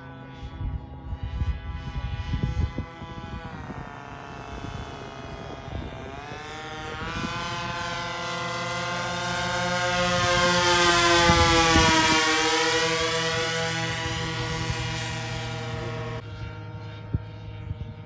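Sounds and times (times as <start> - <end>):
model plane engines droning: 0.0 - 18.0.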